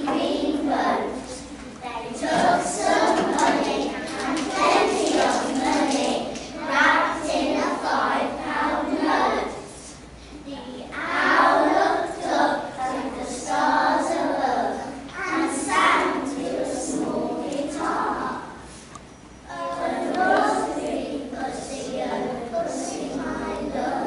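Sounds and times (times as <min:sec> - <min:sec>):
children reciting in unison: 0:00.0 - 0:18.9, 0:19.5 - 0:24.0.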